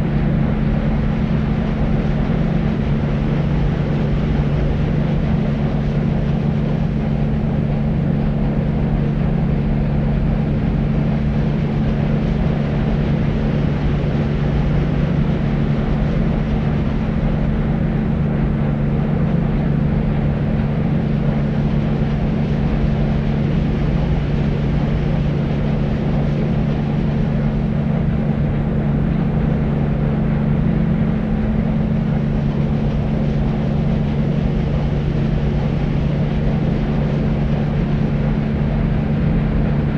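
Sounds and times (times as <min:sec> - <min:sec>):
deep white noise: 0:00.0 - 0:39.9
steady low hum: 0:00.0 - 0:39.9.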